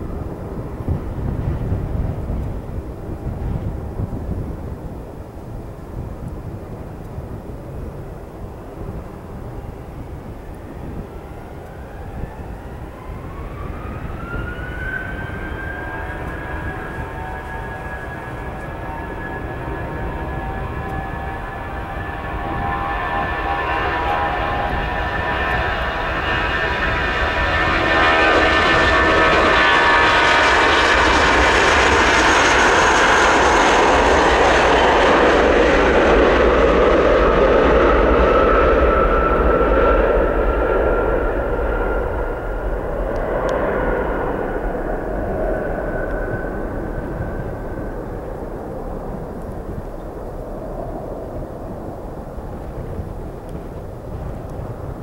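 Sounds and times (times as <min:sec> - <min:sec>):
low engine rumble: 0:00.0 - 0:55.0
jet engine whine rising: 0:06.8 - 0:55.0.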